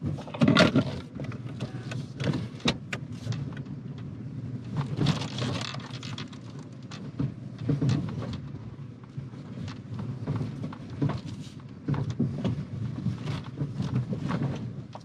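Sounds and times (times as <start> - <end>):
car knocks and rattles: 0.0 - 15.0
low engine hum: 0.0 - 15.0.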